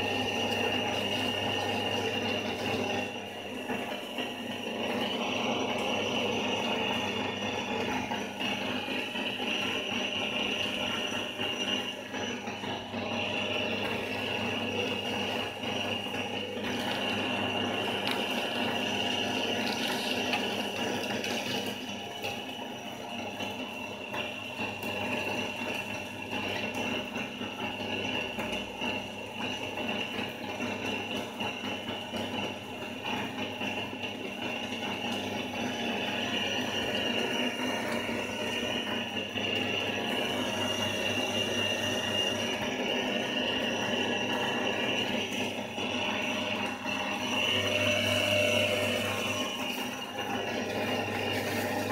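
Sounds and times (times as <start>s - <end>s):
pellet mill running: 0.0s - 51.9s.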